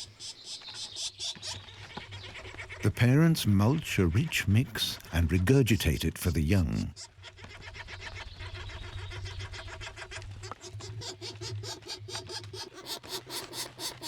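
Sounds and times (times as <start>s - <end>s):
woodpecker nestlings begging calls: 0.0s - 7.0s, 7.6s - 14.0s.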